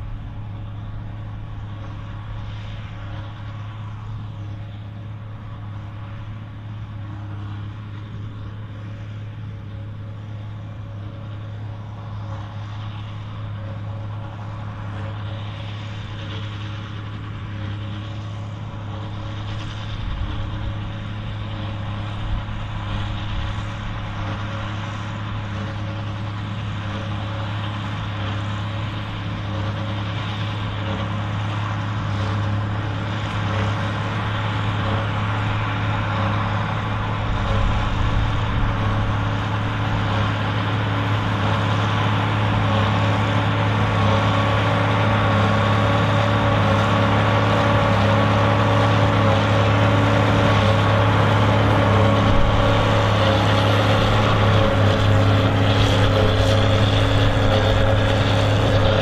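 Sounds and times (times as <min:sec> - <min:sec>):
tractor diesel engine droning: 0:00.0 - 0:59.0.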